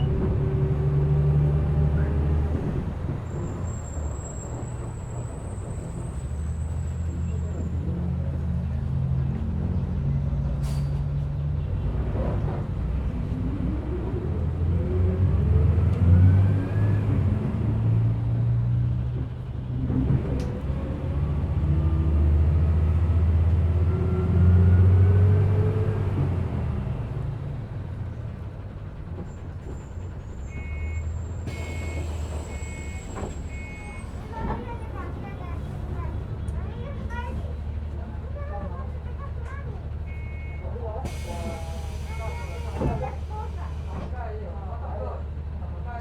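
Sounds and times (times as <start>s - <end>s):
bus engine pulling away: 0.0s - 46.0s.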